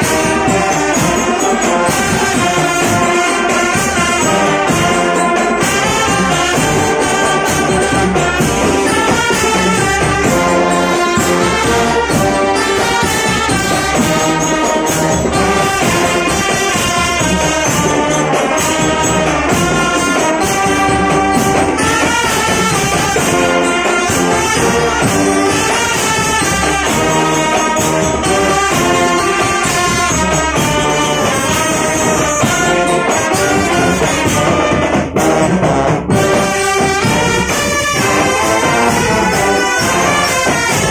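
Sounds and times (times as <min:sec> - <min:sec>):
marching percussion: 0:00.0 - 0:40.9
trumpets and brass horns: 0:00.0 - 0:40.9.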